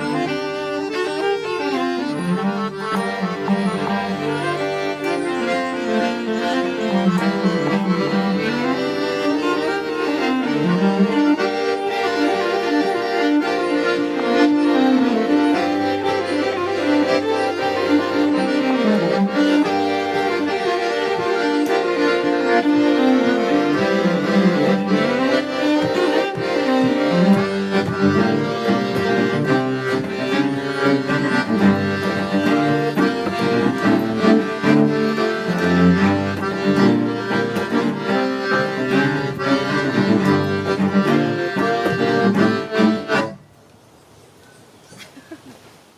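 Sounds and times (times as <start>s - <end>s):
bowed cello: 0.0s - 43.4s
fiddle: 0.0s - 43.4s
accordion: 0.0s - 43.6s.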